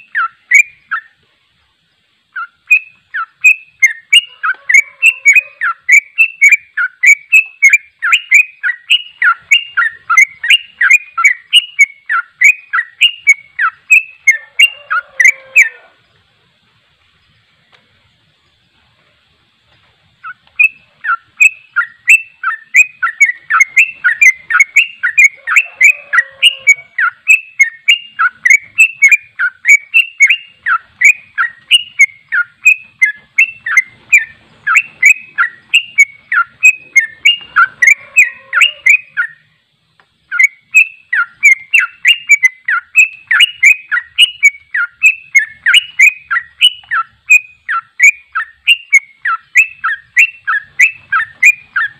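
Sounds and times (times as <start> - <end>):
bird chirping rapidly: 0.0 - 1.2, 1.9 - 16.2, 20.0 - 51.9.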